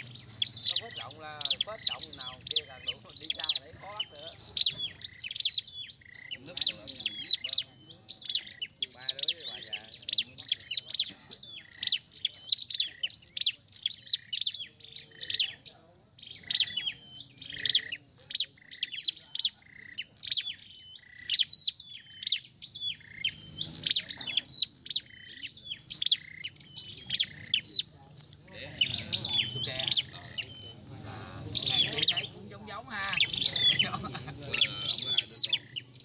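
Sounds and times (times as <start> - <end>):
bird singing high chirps: 0.0 - 36.0.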